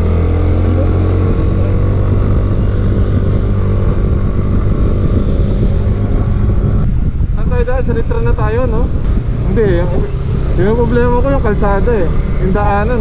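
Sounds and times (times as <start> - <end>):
scooter engine running: 0.0 - 7.2, 9.1 - 13.0
wind on microphone: 0.0 - 13.0.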